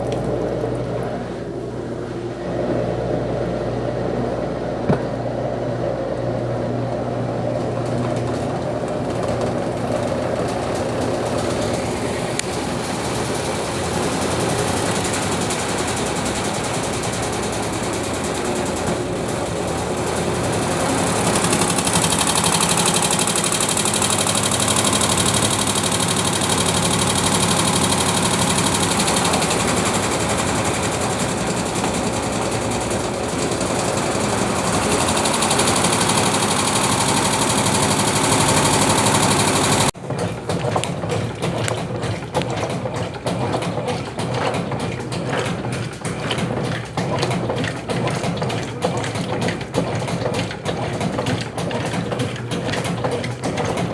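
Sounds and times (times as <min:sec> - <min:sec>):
washing machine churning: 0:00.0 - 0:53.9
washing machine rushing water: 0:00.0 - 0:53.9.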